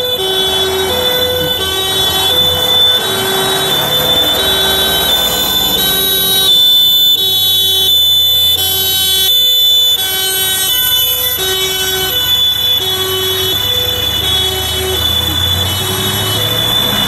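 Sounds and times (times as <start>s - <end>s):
truck diesel engine rumbling: 0.0s - 17.0s
two-tone emergency horn: 0.0s - 17.0s.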